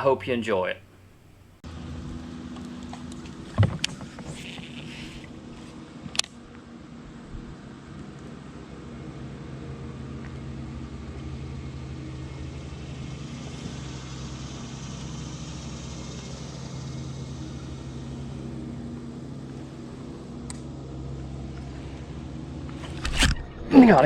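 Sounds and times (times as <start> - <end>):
boat motor humming: 1.2 - 24.0.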